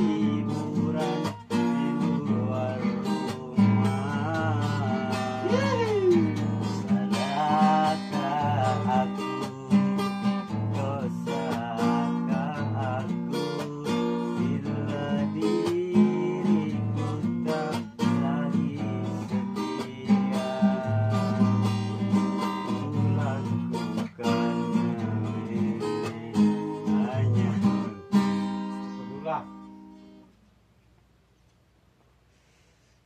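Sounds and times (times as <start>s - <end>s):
man singing: 0.0s - 28.2s
acoustic guitar strumming: 0.0s - 30.3s.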